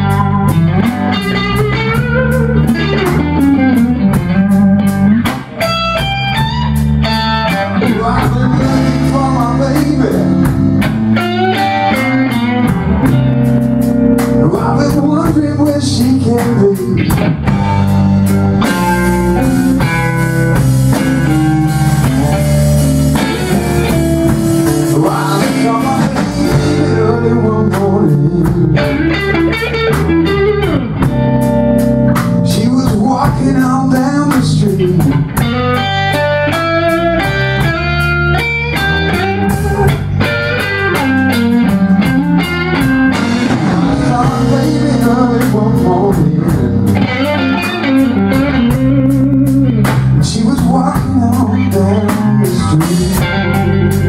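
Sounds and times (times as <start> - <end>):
bass line: 0.0 - 54.0
drum kit cymbal beat: 0.0 - 54.0
electric guitar: 0.0 - 54.0.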